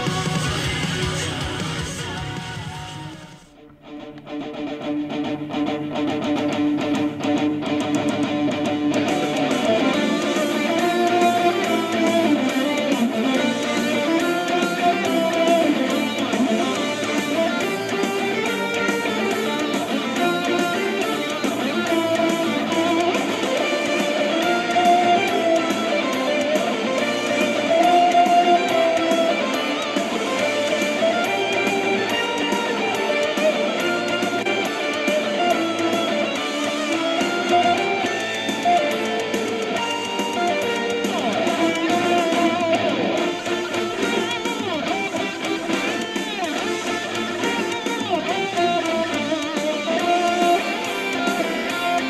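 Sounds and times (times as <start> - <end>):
strummed guitar music: 0.0 - 52.0.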